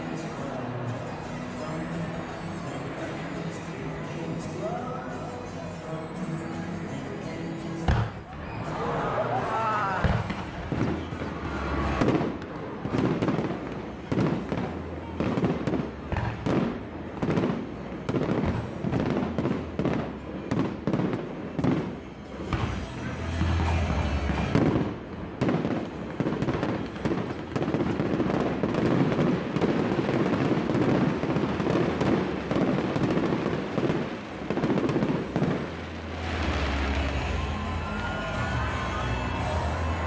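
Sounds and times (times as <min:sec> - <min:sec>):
fireworks bangs and crackle: 0:07.8 - 0:40.0.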